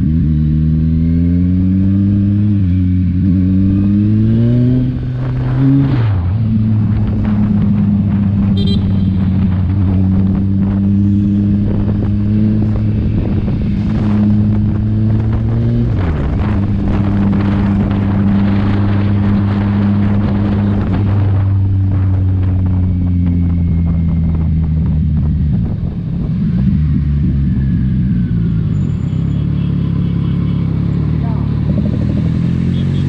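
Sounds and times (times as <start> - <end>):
motorcycle engine and exhaust: 0.0 - 33.0
wind noise on microphone: 2.0 - 29.0.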